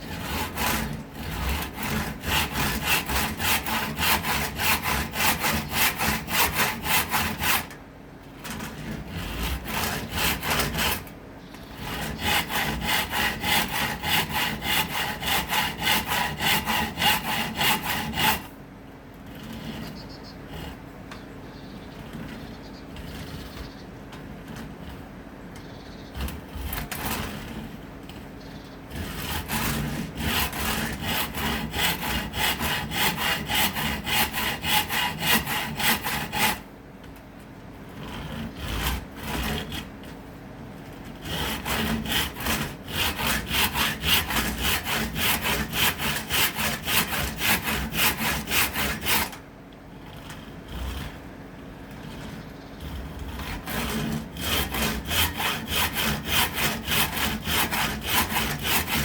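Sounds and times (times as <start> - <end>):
hand saw cutting wood: 0.0 - 21.1, 22.0 - 25.3, 26.1 - 59.0.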